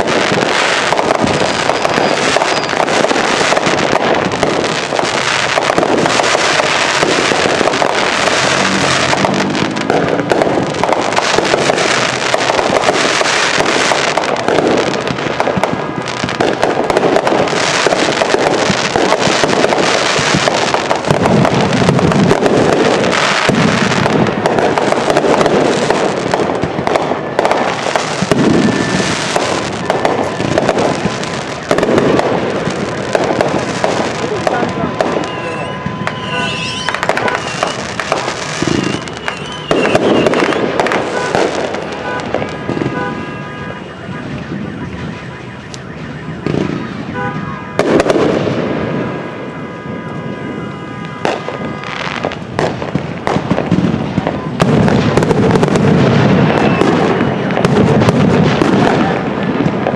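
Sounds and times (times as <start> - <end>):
fireworks crackling and banging: 0.0 - 59.9.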